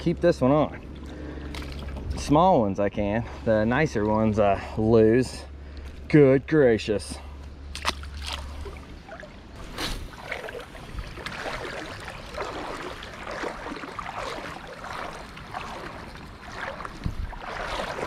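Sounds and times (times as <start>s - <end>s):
creek water sloshing and splashing: 0.4s - 6.1s, 7.4s - 18.0s.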